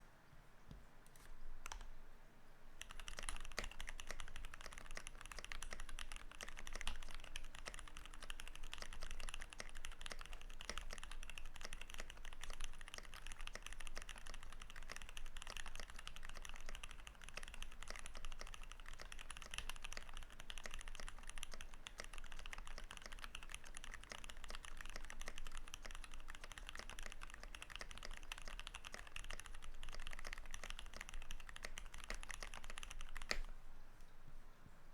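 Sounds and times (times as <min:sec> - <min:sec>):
typing on mechanical keyboard: 0:01.2 - 0:01.9, 0:02.8 - 0:33.5.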